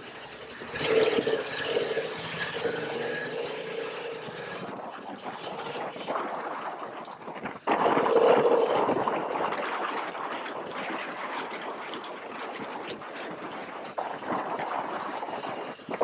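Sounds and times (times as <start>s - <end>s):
motorcycle engine hum: 0.0s - 16.0s
wind rushing over microphone: 0.0s - 16.0s.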